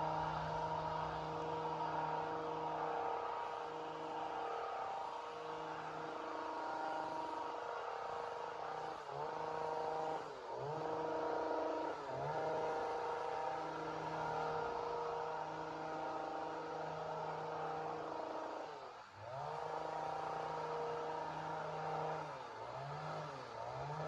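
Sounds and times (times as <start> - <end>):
chainsaw running at high speed: 0.0 - 24.0.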